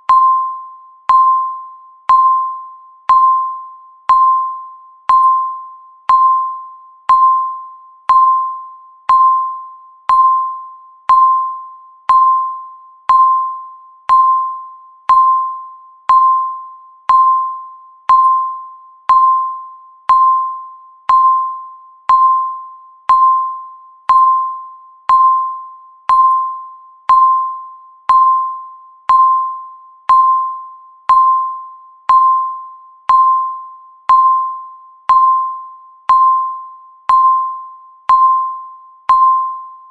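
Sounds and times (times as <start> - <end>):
bell-like timer beep: 0.0 - 39.9.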